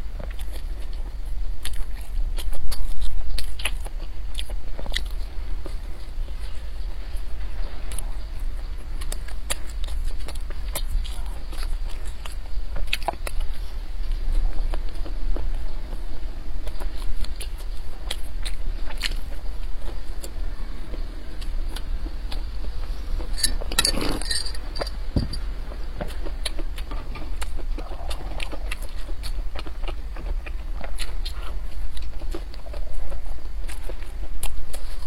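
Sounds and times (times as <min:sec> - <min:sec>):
chewing crusty bread: 0:00.0 - 0:35.0
steady low hum: 0:00.0 - 0:35.0.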